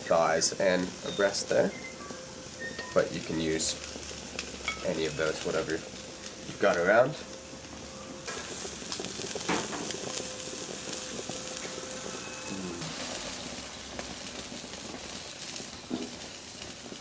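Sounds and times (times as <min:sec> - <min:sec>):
chicken sizzling on grill: 0:00.0 - 0:17.0.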